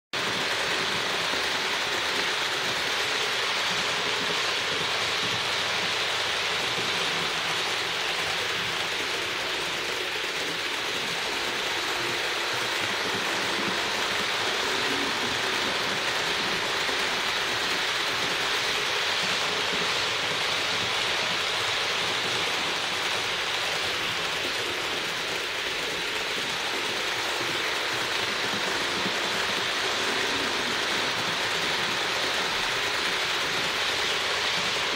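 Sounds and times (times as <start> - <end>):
model train motor running: 0.2 - 34.9
wheels rolling on track: 0.2 - 34.9.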